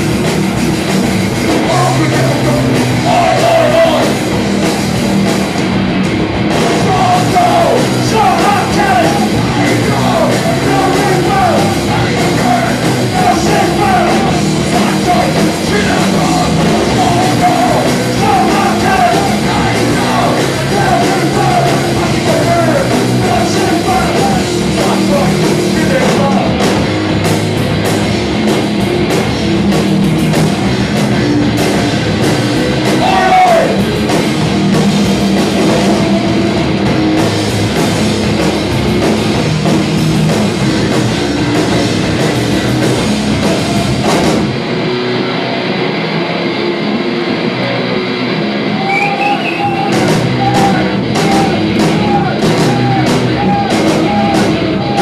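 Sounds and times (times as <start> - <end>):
punk vocals: 0.0 - 45.6, 47.2 - 55.0
bass guitar: 0.0 - 55.0
distorted electric guitar: 0.0 - 55.0
drum kit: 0.0 - 55.0.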